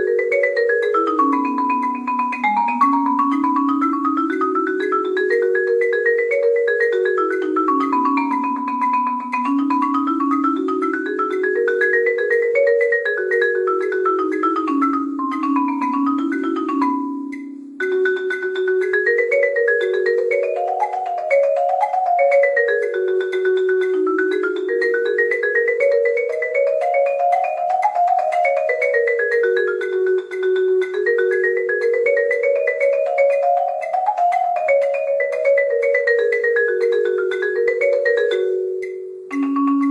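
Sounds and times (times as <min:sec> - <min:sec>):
marimba played with mallets: 0:00.0 - 0:39.9.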